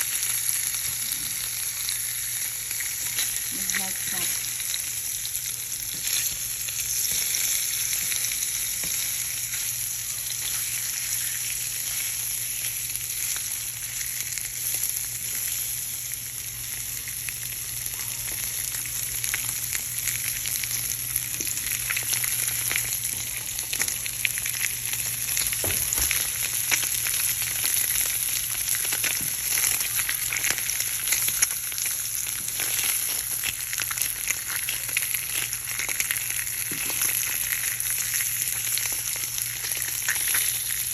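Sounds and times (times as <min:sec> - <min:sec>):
ham sizzling in a frying pan: 0:00.0 - 0:40.9.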